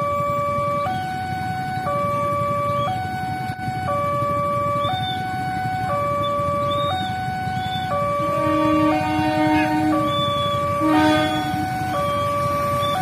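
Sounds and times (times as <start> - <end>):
two-tone level crossing alarm: 0.0 - 13.0.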